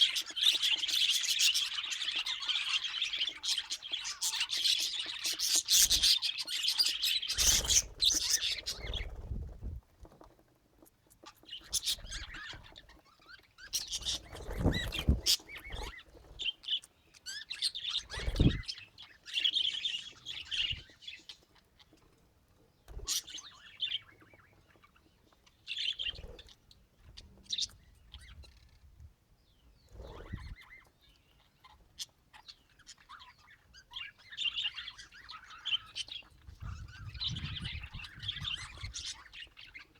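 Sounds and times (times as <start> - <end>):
budgerigars chirping: 0.0 - 9.5, 11.2 - 22.0, 23.0 - 28.8, 29.9 - 39.9.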